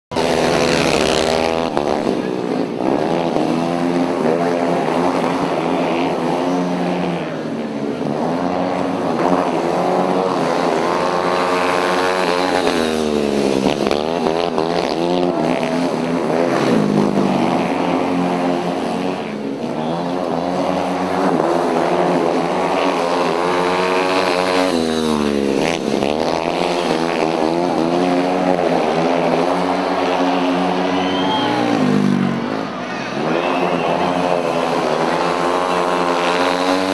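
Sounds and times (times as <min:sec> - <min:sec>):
motorcycle engines revving: 0:00.1 - 0:36.9.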